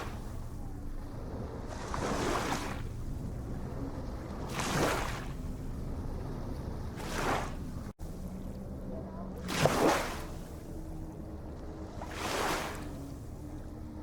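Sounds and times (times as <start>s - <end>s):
low rumble of surf: 0.0s - 14.0s
ocean waves breaking: 0.0s - 14.0s.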